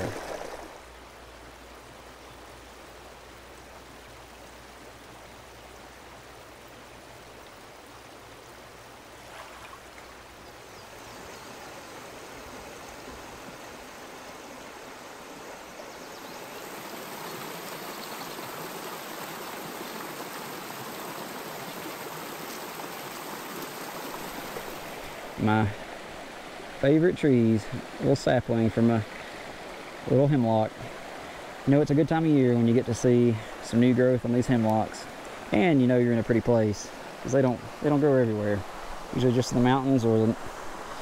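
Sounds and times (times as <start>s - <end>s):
stream running over rocks: 0.0s - 41.0s.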